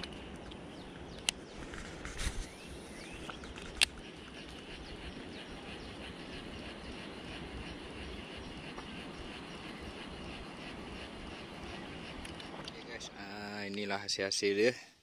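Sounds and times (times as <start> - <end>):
birds: 0.0 - 14.7
insects: 0.0 - 14.8.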